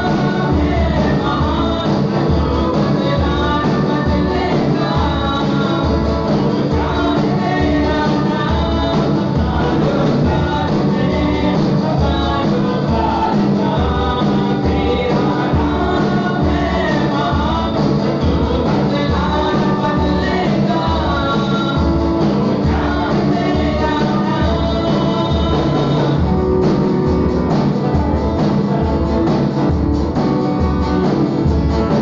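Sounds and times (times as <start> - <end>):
acoustic and electric guitars: 0.0 - 32.0
drum kit beat: 0.0 - 32.0
people singing into microphones: 0.0 - 32.0.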